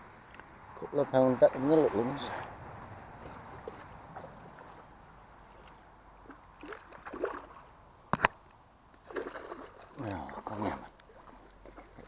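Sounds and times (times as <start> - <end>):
faint water sounds: 0.0 - 12.0
small water splashes: 1.4 - 8.3, 9.0 - 12.0.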